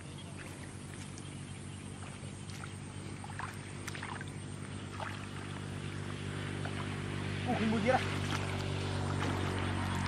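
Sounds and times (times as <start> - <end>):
feet wading through shallow water: 0.0 - 10.0
low mechanical hum: 0.0 - 10.0.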